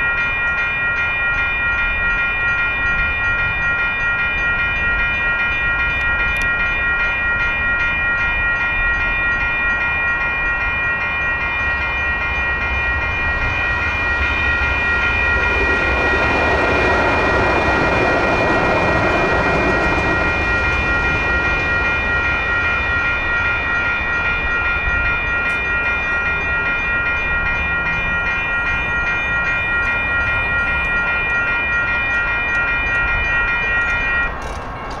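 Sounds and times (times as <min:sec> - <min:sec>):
crossing bell ringing: 0:00.0 - 0:35.0
train wheel noise: 0:00.0 - 0:35.0.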